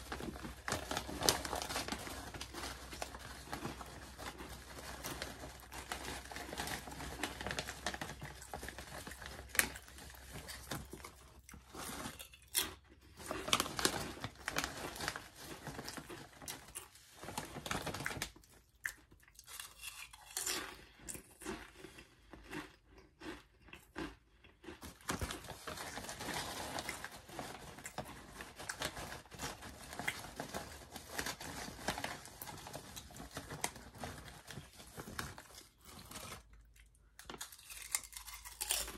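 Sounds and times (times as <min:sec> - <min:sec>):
chip bag crinkling: 0:00.0 - 0:20.8, 0:21.4 - 0:38.9
crunching and chewing chips: 0:00.0 - 0:38.9.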